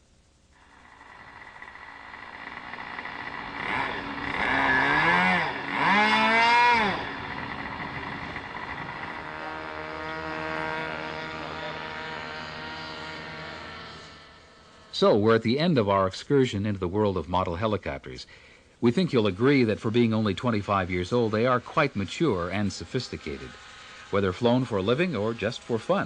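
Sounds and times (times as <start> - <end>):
model helicopter engine revving: 0.6 - 15.7, 19.1 - 26.0.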